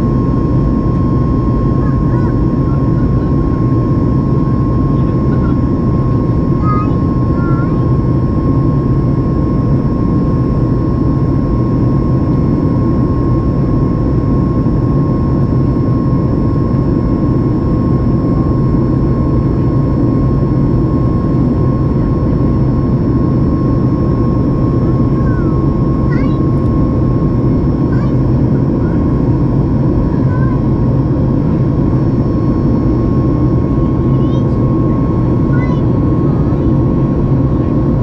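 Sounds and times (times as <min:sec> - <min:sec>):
jet engine cabin roar: 0:00.0 - 0:38.0
thin steady whine: 0:00.0 - 0:38.0.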